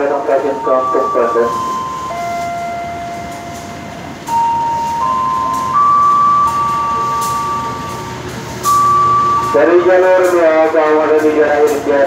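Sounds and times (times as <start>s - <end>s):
low train rumble: 0.0s - 12.0s
train whining tones: 0.0s - 12.0s.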